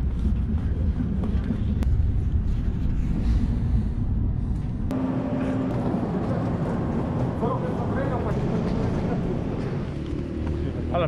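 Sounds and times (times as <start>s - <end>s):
steady hum: 0.0s - 9.9s
train carriage rumble: 0.0s - 10.9s.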